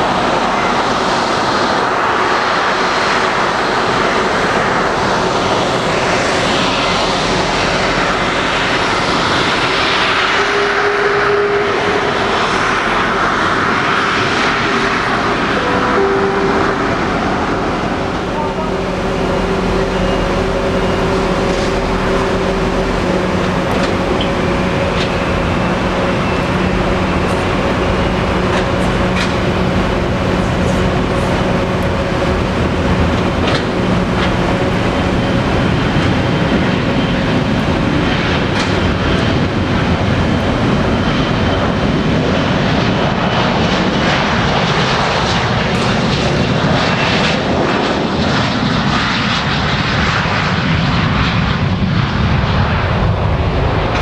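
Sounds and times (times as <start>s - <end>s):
jet engines running for takeoff: 0.0s - 54.0s.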